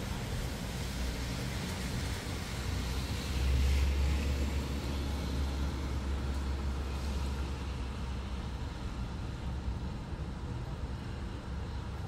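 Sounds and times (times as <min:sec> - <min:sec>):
rain: 0:00.0 - 0:12.0
wind: 0:00.0 - 0:12.0.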